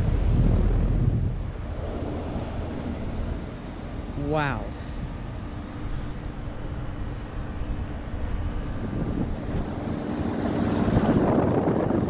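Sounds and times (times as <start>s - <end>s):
heat pump humming: 0.0s - 12.0s.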